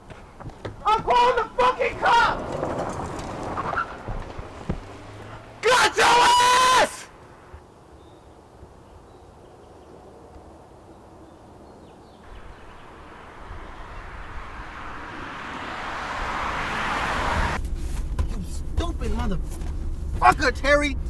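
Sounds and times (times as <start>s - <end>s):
car engine and road noise: 0.0s - 8.8s, 10.0s - 21.0s.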